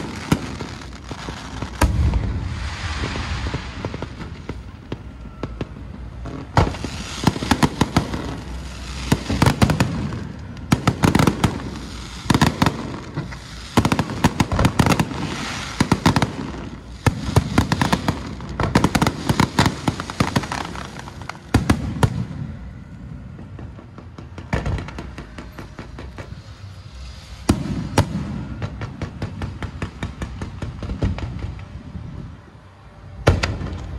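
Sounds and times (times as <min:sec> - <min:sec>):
fireworks cracks and bangs: 0:00.0 - 0:32.3, 0:33.2 - 0:33.9.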